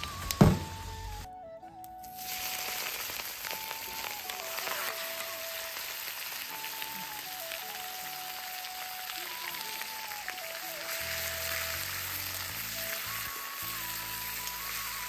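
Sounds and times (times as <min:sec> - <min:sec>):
background music: 0:00.0 - 0:15.0
chicken sizzling in hot oil: 0:02.0 - 0:15.0.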